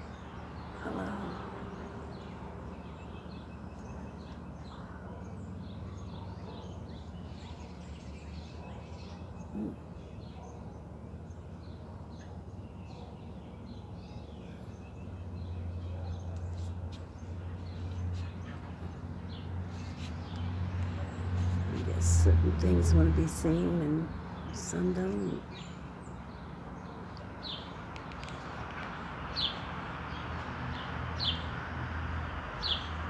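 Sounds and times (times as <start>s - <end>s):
small birds chirping: 0.0s - 31.6s, 32.6s - 33.0s.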